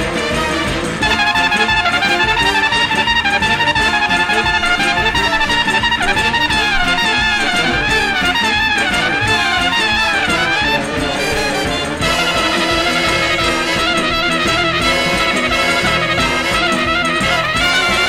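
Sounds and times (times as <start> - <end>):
brass ensemble: 0.0 - 18.0
trumpet melody: 0.0 - 18.0.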